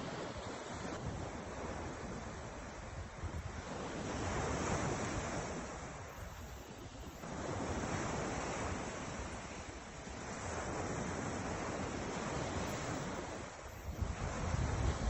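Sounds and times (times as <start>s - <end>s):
ocean surf washing in: 0.0s - 15.0s
wind buffeting microphone: 0.0s - 15.0s.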